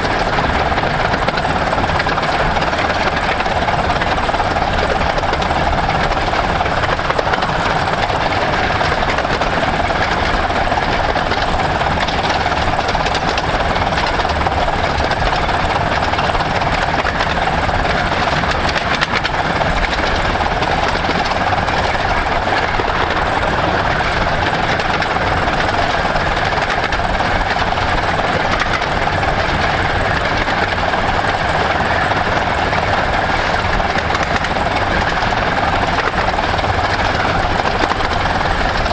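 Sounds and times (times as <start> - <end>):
miniature train rumbling and rattling: 0.0 - 38.9.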